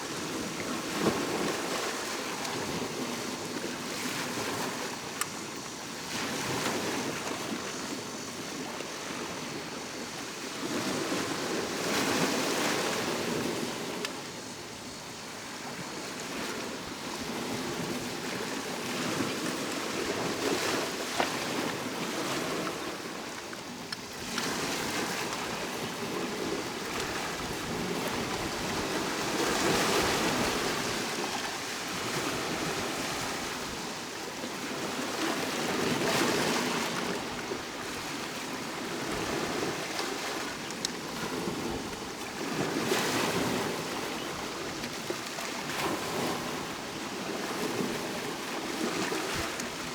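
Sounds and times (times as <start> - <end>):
sea waves breaking on shore: 0.0 - 49.9.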